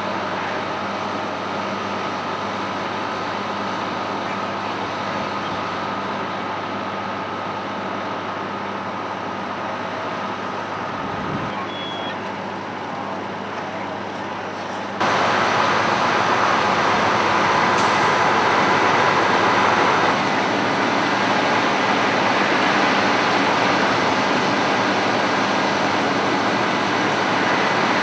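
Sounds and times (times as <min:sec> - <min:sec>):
highway traffic: 0:00.0 - 0:28.0
diesel engines idling: 0:00.1 - 0:28.0.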